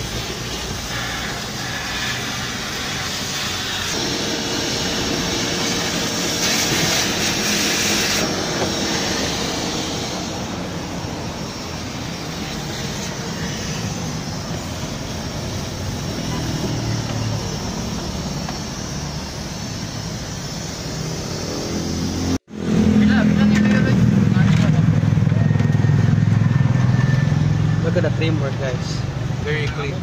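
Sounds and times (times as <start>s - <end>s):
whooshing motor noise: 0.0s - 30.0s.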